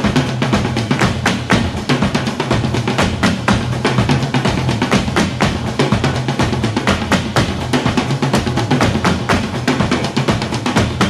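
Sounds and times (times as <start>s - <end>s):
fast drum-kit beat: 0.0s - 11.0s.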